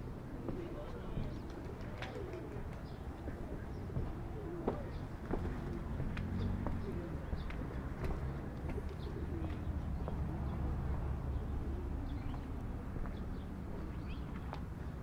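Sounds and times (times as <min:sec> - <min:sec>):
low street rumble: 0:00.0 - 0:15.0
pigeon cooing: 0:00.3 - 0:12.6.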